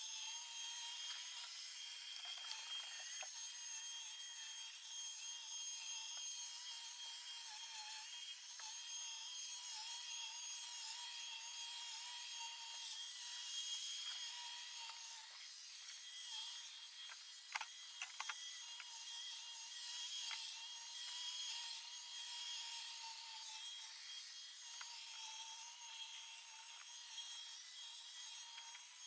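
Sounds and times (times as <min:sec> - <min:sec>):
robot vacuum high whine: 0:00.0 - 0:29.0.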